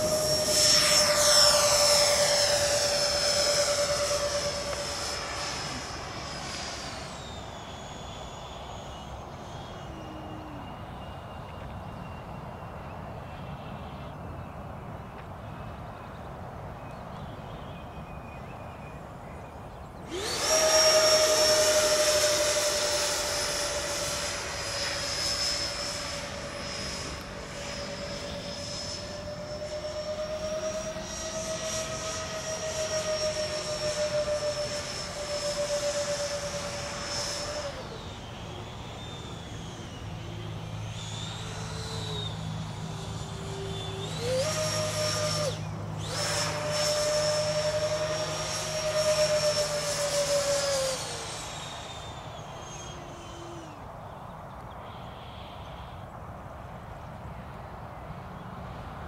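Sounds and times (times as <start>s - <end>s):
electric ducted fans whining: 0.0s - 59.0s.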